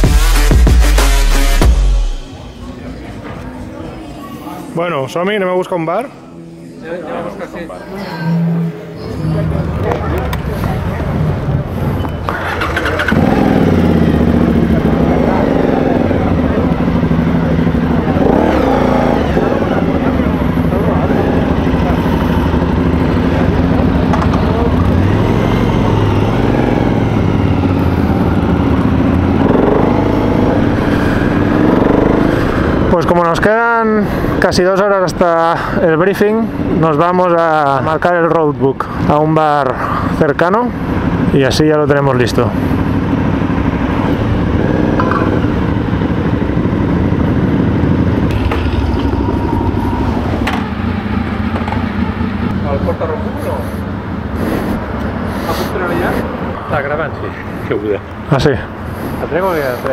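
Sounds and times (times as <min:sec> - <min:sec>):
motorcycle engine running: 0:08.4 - 0:38.3, 0:39.8 - 0:59.9.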